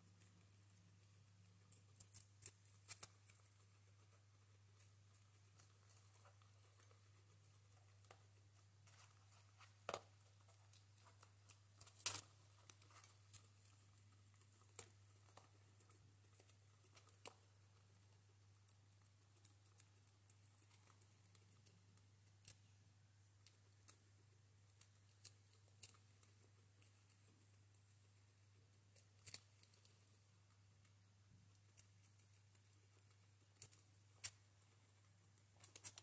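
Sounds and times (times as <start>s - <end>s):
faint low hum: 0.0s - 36.0s
guinea pigs crunching food: 0.0s - 36.0s.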